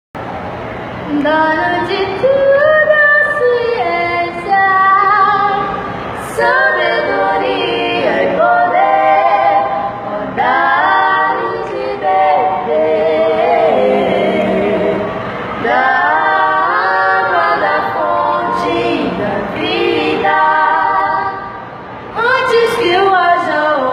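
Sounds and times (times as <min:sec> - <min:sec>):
women singing a cappella: 0:01.1 - 0:23.9.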